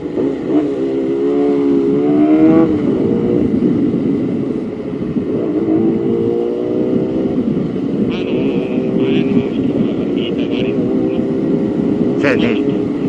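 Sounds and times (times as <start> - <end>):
motorcycle engine accelerating: 0.0 - 13.0
road and wind noise: 0.0 - 13.0.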